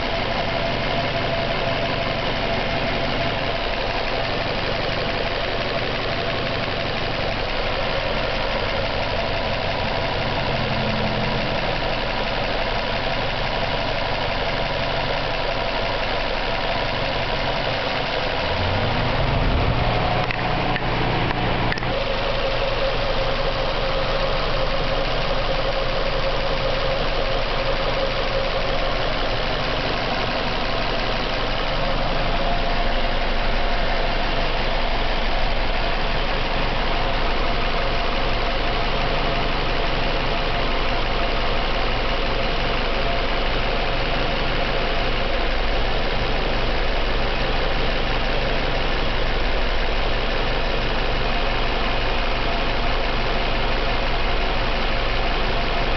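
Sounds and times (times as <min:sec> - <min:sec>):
car engine idling with knock: 0:00.0 - 0:55.9.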